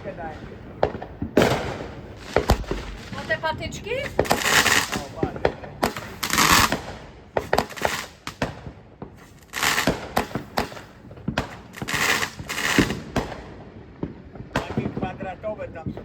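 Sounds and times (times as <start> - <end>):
fireworks hissing bursts: 0.0 - 13.4
fireworks bangs and cracks: 0.0 - 16.0.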